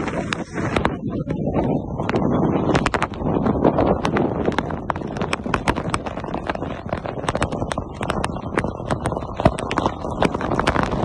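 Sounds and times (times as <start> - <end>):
heavy rain: 0.0 - 11.0
raindrops tapping close by: 0.0 - 11.0
wind buffeting microphone: 0.0 - 11.0.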